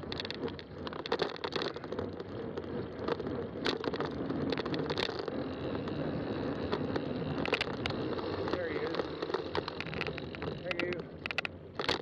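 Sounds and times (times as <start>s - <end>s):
bike clicks and rattles: 0.0s - 12.0s
bike tyre rumble: 0.0s - 12.0s.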